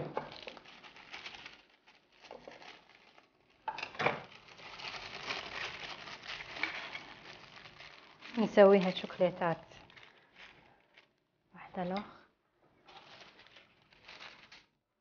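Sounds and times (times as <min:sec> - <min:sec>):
paper rustling and crinkling: 0:00.0 - 0:11.2, 0:12.8 - 0:14.8.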